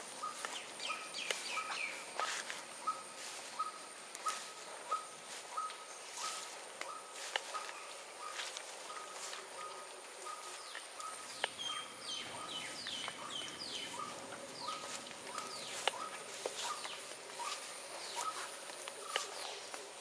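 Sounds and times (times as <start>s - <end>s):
high insect hum: 0.0s - 20.0s.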